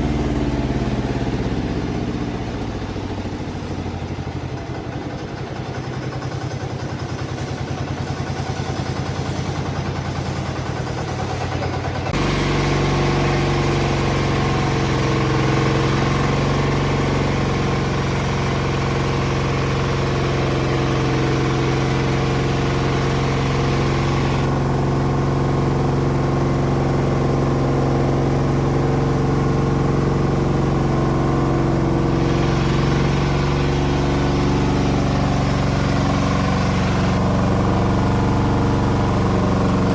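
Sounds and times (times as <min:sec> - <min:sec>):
band sawmill sawing log: 0:00.0 - 0:39.9.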